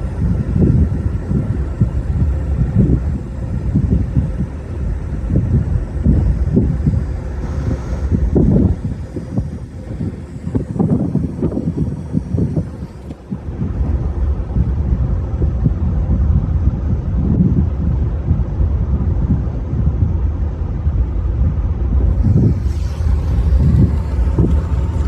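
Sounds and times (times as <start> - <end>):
vehicle rumble: 0.0 - 25.0
wind noise on microphone: 0.0 - 25.0.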